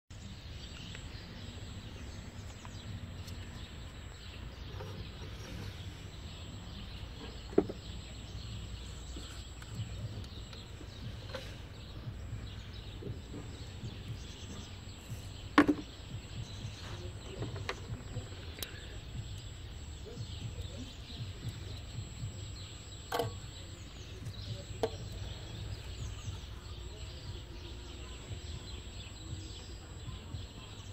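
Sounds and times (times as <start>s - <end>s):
outdoor background rumble: 0.1s - 30.9s.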